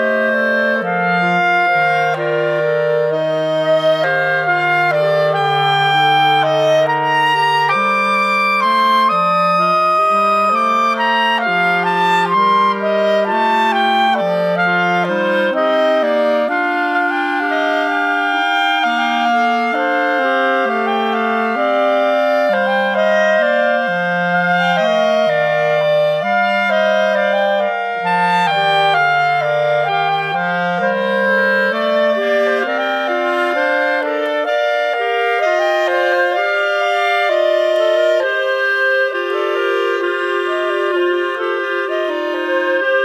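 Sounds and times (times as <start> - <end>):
instrumental music with held notes: 0.0 - 43.0.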